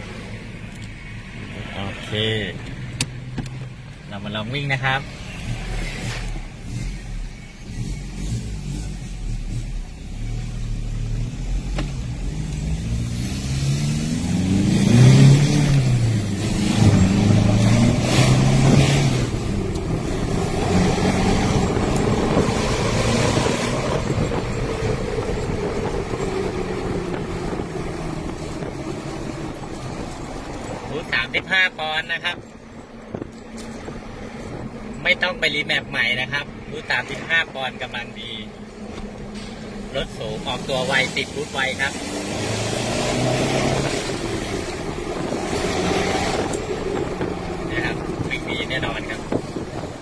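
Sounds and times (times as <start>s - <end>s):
diesel engine accelerating: 0.0s - 50.0s.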